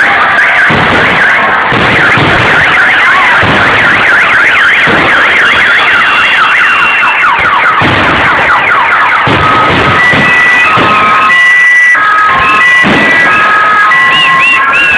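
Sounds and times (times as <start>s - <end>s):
car alarms wailing: 0.0s - 14.9s
fireworks booming: 0.0s - 14.9s.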